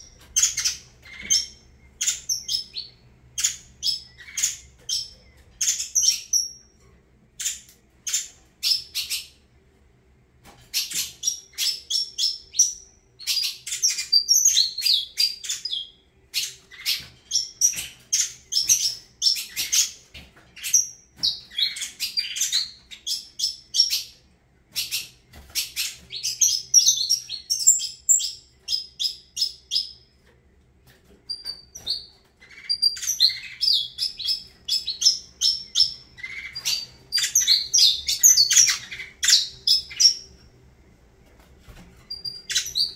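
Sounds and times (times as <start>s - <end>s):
finch chirping: 0.0s - 6.8s, 7.4s - 9.4s, 10.6s - 30.1s, 31.2s - 40.4s, 42.0s - 42.9s.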